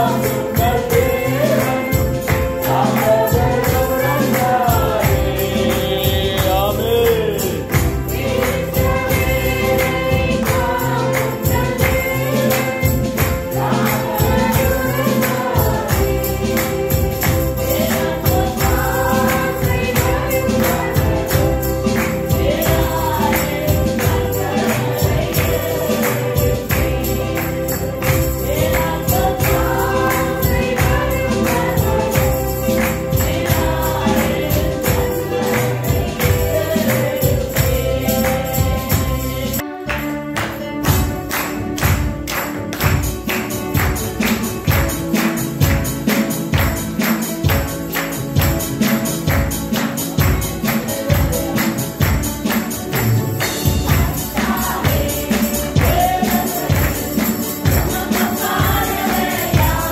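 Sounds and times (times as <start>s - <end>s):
steady percussion beat: 0.0s - 39.6s, 40.6s - 59.9s
voices singing in unison: 0.0s - 39.8s, 43.8s - 59.9s.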